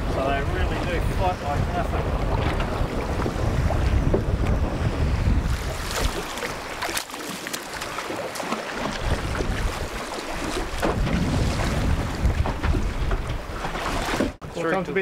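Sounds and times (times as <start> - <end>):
wind buffeting microphone: 0.0 - 7.0, 8.7 - 14.5
water splashing against boat: 0.0 - 15.0.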